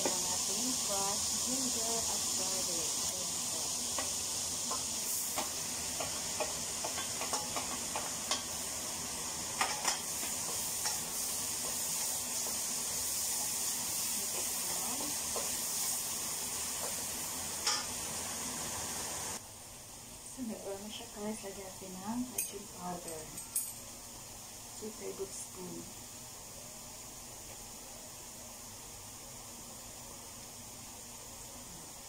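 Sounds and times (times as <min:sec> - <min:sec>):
garlic sizzling in butter: 0:00.0 - 0:32.0.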